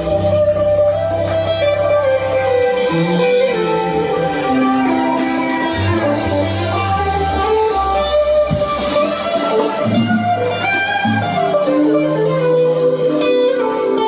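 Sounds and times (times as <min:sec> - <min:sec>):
electric bass line: 0:00.0 - 0:14.0
electric guitar sustained lead notes: 0:00.0 - 0:14.0.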